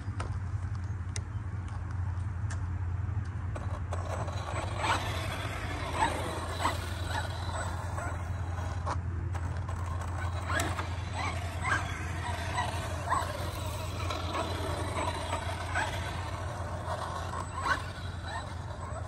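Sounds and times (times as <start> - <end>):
steady low hum: 0.0 - 19.0
electric motor rising whines: 3.6 - 19.0.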